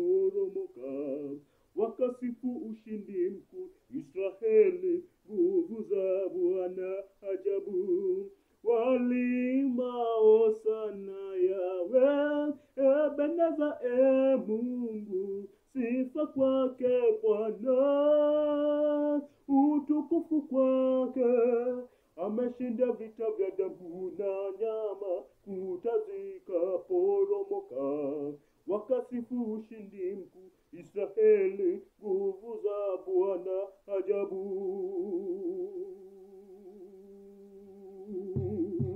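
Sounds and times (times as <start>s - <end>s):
man singing unaccompanied: 0.0s - 38.9s.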